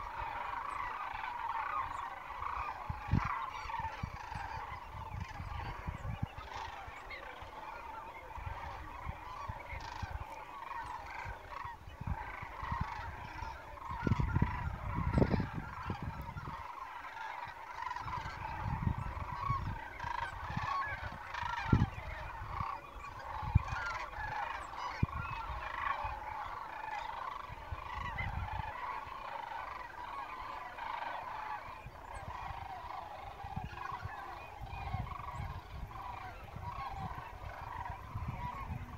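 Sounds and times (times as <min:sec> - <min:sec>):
geese honking: 0:00.0 - 0:38.9
wind rumble on microphone: 0:00.0 - 0:38.9.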